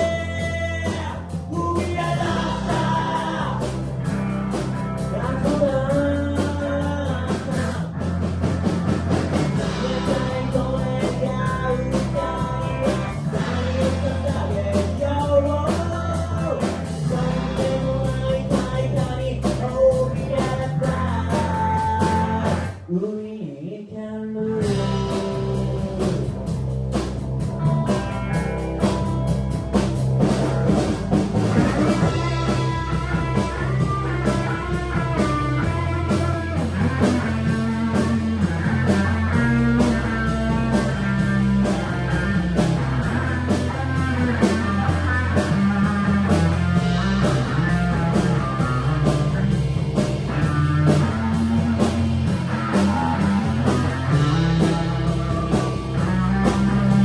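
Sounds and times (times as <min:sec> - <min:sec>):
electric guitar lead line: 0:00.0 - 0:22.8, 0:24.6 - 0:57.0
drum kit beats: 0:00.0 - 0:22.9, 0:24.6 - 0:57.0
bass guitar: 0:00.0 - 0:23.0, 0:24.4 - 0:57.0.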